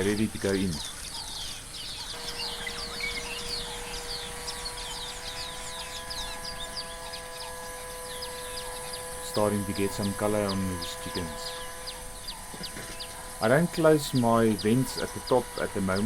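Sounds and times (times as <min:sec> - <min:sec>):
birds chirping: 0:00.0 - 0:16.0
steady held tones: 0:00.0 - 0:16.0.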